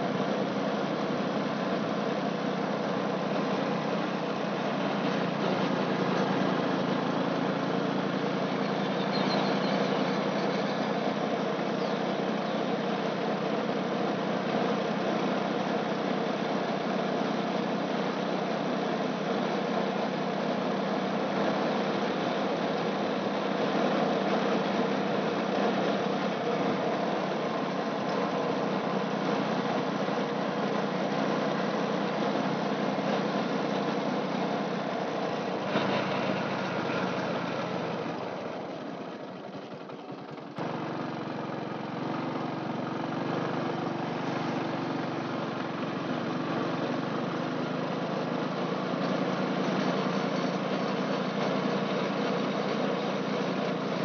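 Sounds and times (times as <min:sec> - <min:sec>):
road and wind noise: 0:00.0 - 0:54.0
vehicle engine running: 0:00.0 - 0:54.0.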